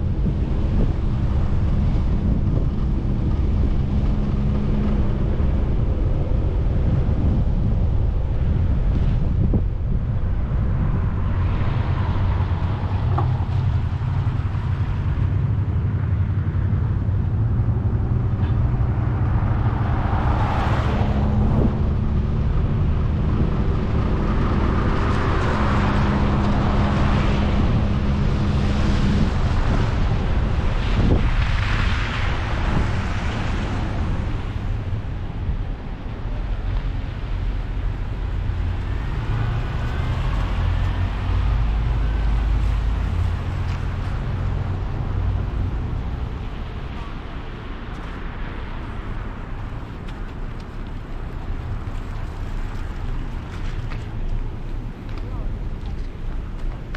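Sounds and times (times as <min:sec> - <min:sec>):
vehicle engine and road rumble: 0:00.0 - 0:56.9.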